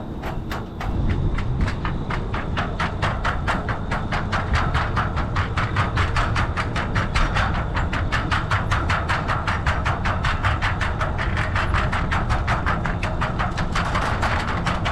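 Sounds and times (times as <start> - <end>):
bicycle tires clicking over deck joints: 0.0 - 14.9
wind rumble on microphone: 0.0 - 14.9.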